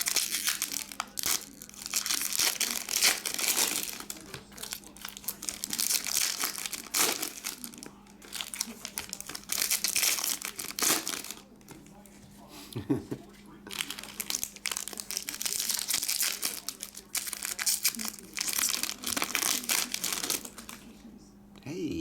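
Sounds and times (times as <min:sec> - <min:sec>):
card pack wrappers crinkling: 0:00.0 - 0:12.1, 0:13.7 - 0:20.9.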